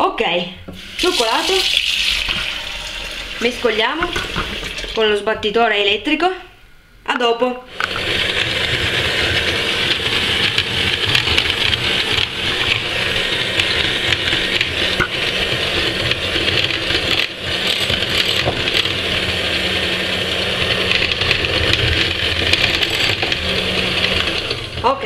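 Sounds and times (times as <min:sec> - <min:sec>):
electric hand mixer whisking batter: 0:00.8 - 0:05.0, 0:07.8 - 0:25.0.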